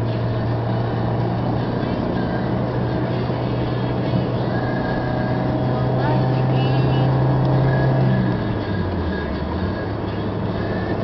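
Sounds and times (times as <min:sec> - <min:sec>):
low engine drone: 0:00.0 - 0:11.0
road and tyre noise: 0:00.0 - 0:11.0.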